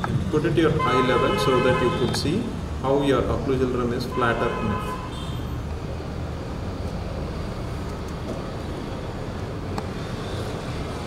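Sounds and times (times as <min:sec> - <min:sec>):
low droning hum and hiss: 0:00.0 - 0:11.0.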